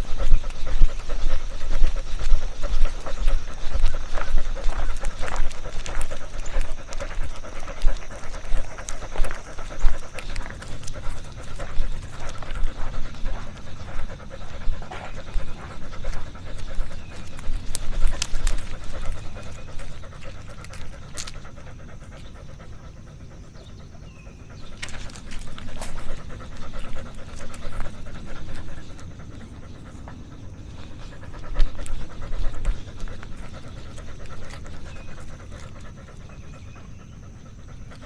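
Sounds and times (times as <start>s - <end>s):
dog panting: 0.0s - 38.0s.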